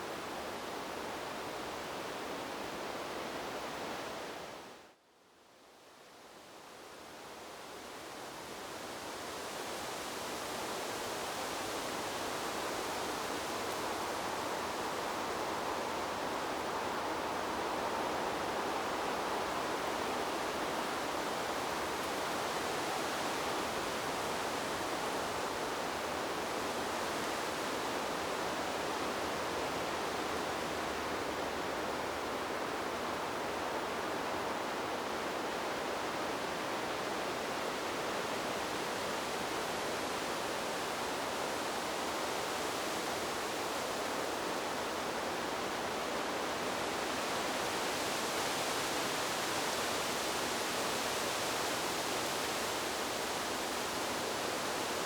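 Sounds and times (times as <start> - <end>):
wind blowing through trees: 0.0 - 55.0.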